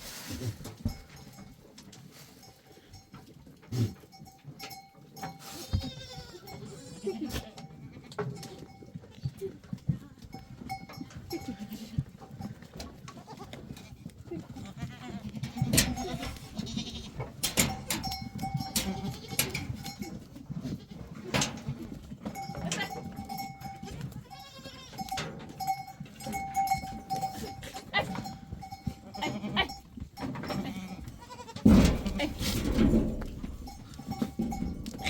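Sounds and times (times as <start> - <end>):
goat bells ringing: 0.7 - 35.0.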